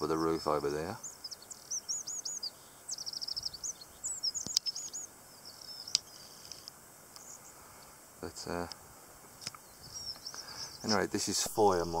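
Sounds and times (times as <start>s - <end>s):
faint steady hiss: 0.0s - 12.0s
songbirds twittering: 0.0s - 12.0s.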